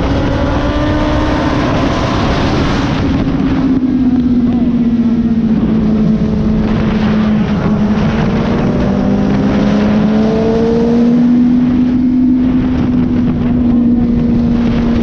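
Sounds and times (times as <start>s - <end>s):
motorcycle engine at speed: 0.0s - 15.0s
wind rush: 0.0s - 15.0s.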